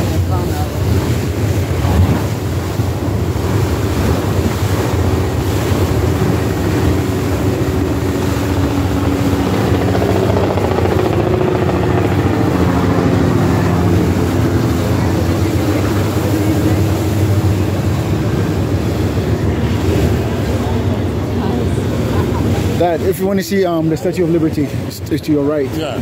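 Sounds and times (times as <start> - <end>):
wind buffeting the microphone: 0.0 - 23.1
boat engine drone: 0.0 - 26.0
rushing water: 0.0 - 26.0.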